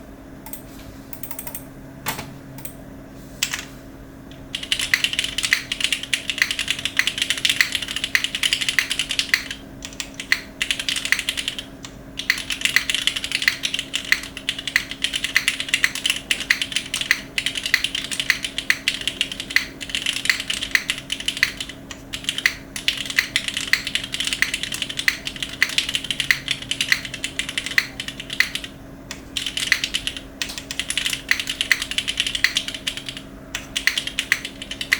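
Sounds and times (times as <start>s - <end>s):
mechanical keyboard typing: 1.2s - 1.6s, 4.3s - 34.9s.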